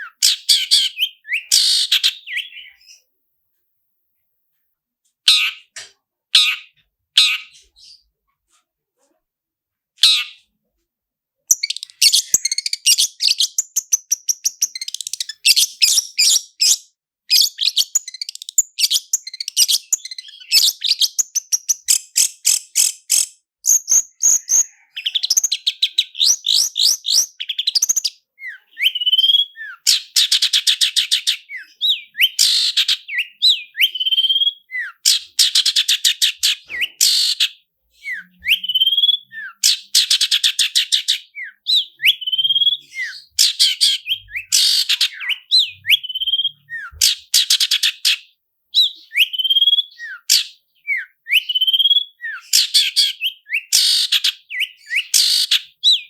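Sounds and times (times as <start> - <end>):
bird singing fast repeated notes: 0.0 - 3.0, 11.5 - 56.0.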